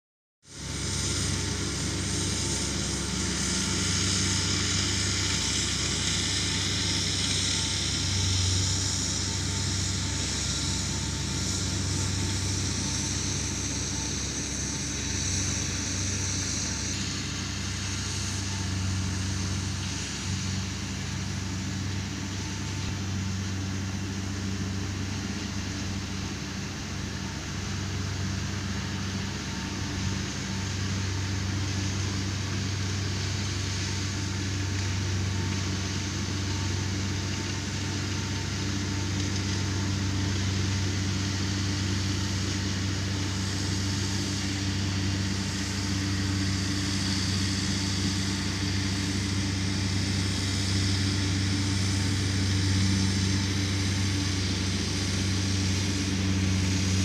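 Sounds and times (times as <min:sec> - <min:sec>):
mower cutting grass: 0:00.4 - 0:57.0
tractor diesel engine running: 0:00.4 - 0:57.0.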